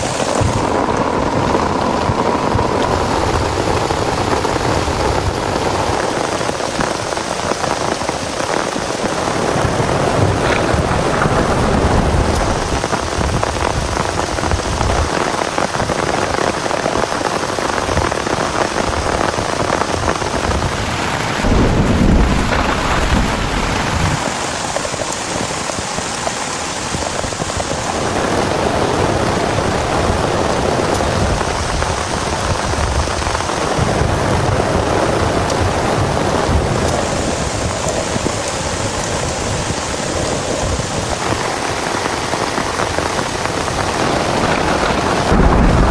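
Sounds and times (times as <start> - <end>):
thunder rumble: 0.0 - 25.8, 26.9 - 45.9
heavy rain: 0.0 - 45.9.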